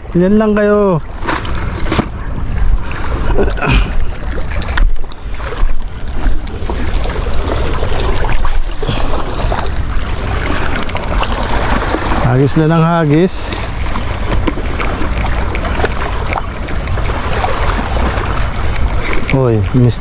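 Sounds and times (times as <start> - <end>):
sea water washing: 0.0 - 20.0
wind buffeting microphone: 0.0 - 20.0.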